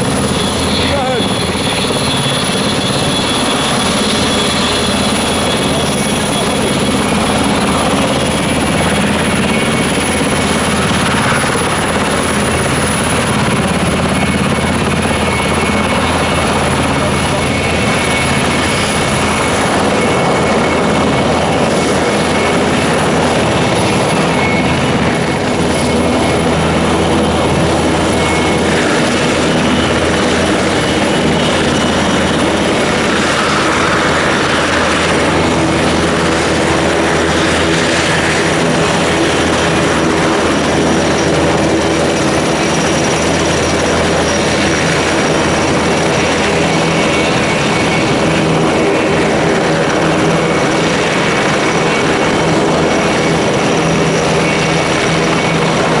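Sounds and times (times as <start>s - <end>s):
aircraft engines droning: 0.0s - 56.0s.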